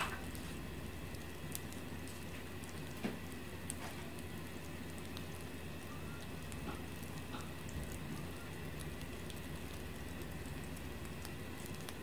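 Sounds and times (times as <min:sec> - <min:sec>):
low steady hum: 0:00.0 - 0:12.0
peanuts ticking and crackling: 0:00.0 - 0:12.0.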